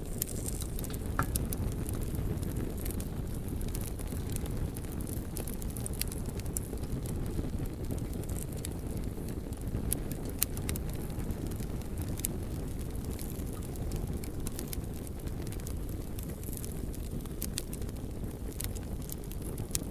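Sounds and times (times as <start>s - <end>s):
fire crackling: 0.0s - 19.9s.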